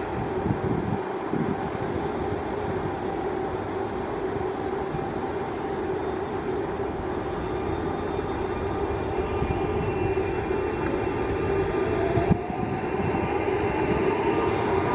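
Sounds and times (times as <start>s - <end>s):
train running with low hum: 0.0s - 14.9s.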